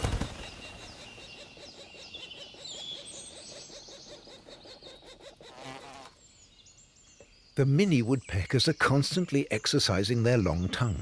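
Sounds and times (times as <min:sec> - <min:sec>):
woodpecker nestlings chirping: 0:00.0 - 0:10.2.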